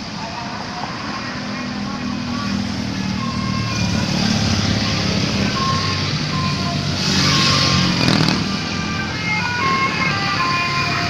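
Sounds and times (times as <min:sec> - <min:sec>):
vehicle engine running: 0:01.5 - 0:11.0.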